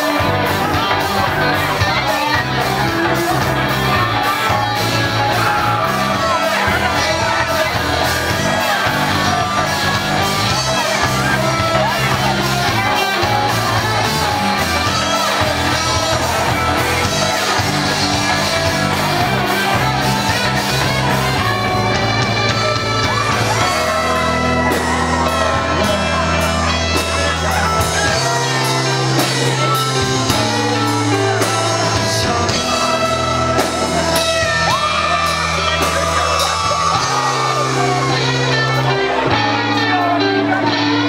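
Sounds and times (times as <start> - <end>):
drums with steady beat: 0.0 - 39.3
bass guitar: 0.0 - 41.0
electric guitar: 0.0 - 41.0
person singing: 0.0 - 41.0.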